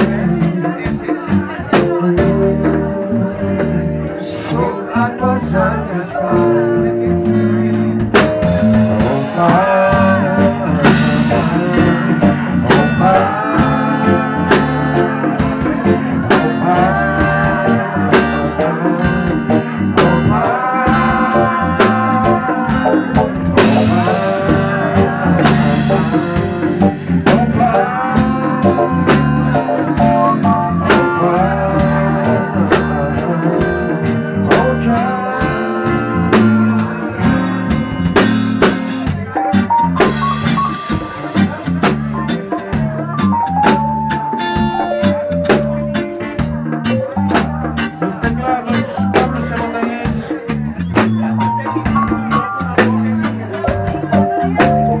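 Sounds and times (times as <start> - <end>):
drum kit beat: 0.0 - 55.0
electric and acoustic guitars: 0.0 - 55.0.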